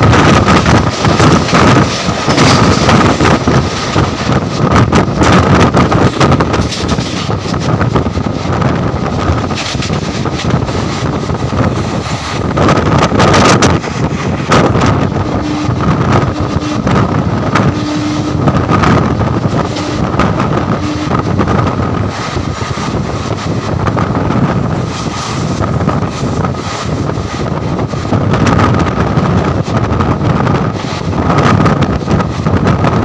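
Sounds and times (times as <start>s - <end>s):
train wheels rumbling on rails: 0.0s - 33.0s
wind buffeting microphone: 0.0s - 33.0s.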